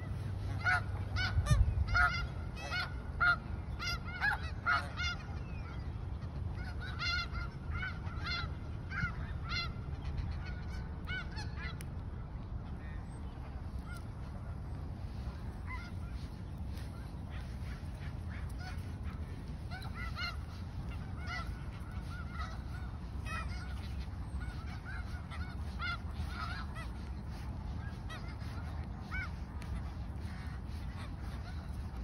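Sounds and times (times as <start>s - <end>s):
geese honking: 0.0s - 32.0s
steady low rumble: 0.0s - 32.0s.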